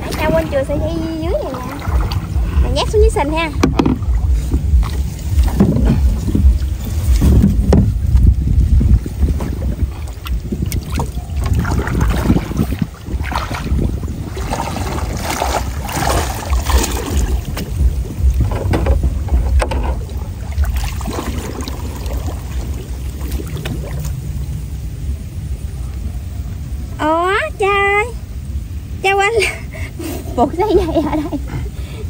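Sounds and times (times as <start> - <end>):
water sloshing and splashing: 0.0 - 26.0
wind buffeting microphone: 0.0 - 32.0.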